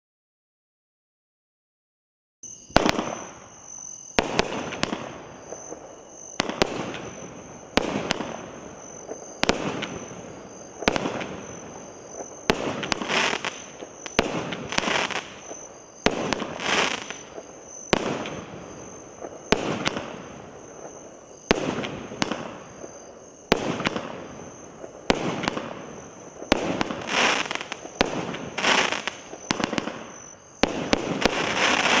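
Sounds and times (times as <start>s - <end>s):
firework crackling: 2.7s - 32.0s
firework shots: 2.7s - 32.0s.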